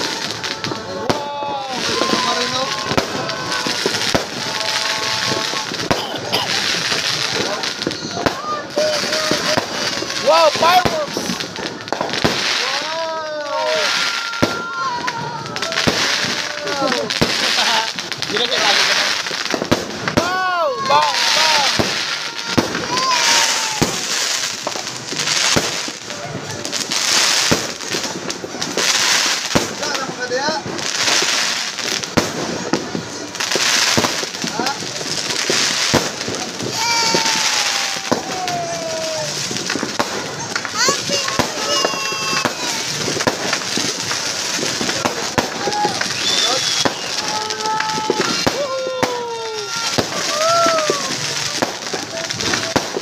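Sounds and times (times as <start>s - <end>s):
fireworks bangs: 0.0s - 53.0s
fireworks crackling: 0.0s - 53.0s.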